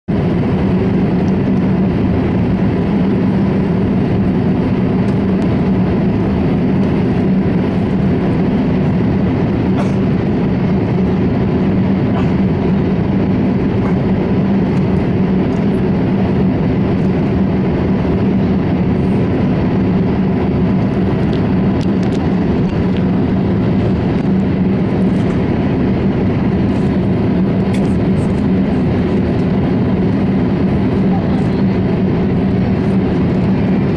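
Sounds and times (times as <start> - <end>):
airliner cabin drone: 0.1 - 33.9.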